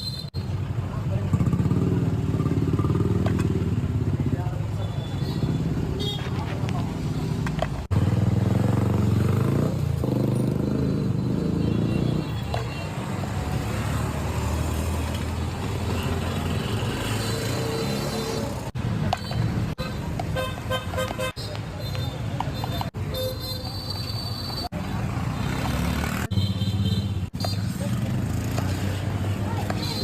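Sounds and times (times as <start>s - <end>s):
street traffic: 0.0s - 30.0s.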